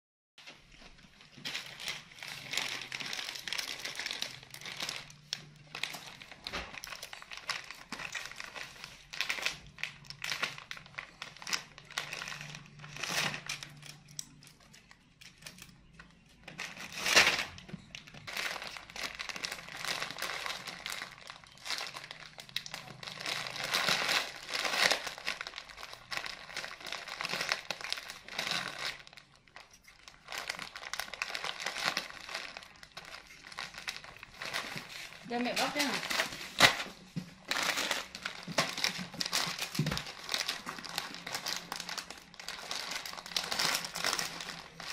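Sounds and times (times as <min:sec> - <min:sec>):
plastic packaging crinkling: 0:00.4 - 0:44.9.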